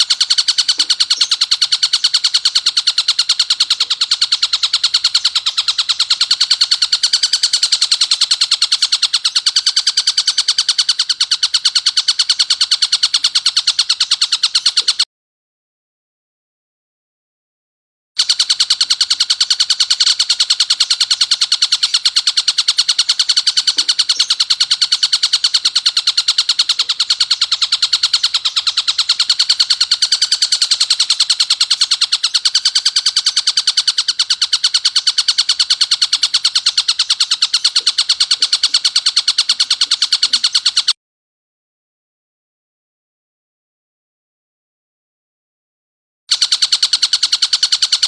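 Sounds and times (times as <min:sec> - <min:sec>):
kingfisher rattling trill: 0:00.0 - 0:15.0, 0:18.2 - 0:41.0, 0:46.3 - 0:48.0.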